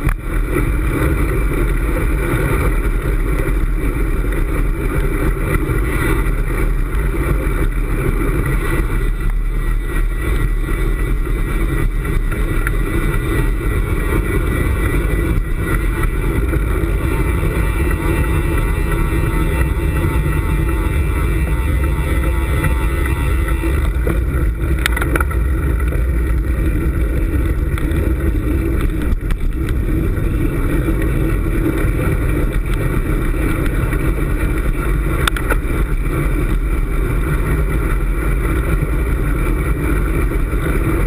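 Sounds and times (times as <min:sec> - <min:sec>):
tyre and road noise: 0:00.0 - 0:41.0
wind buffeting camera: 0:00.0 - 0:41.0.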